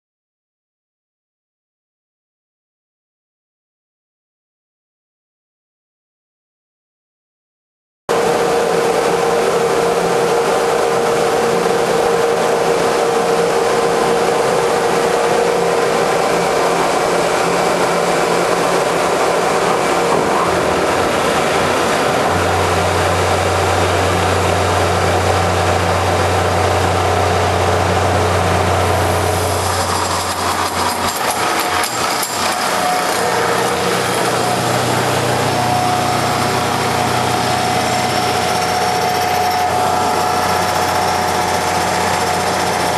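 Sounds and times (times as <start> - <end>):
lathe machine hum: 8.1 - 42.9
rough bright machine noise: 8.1 - 42.9.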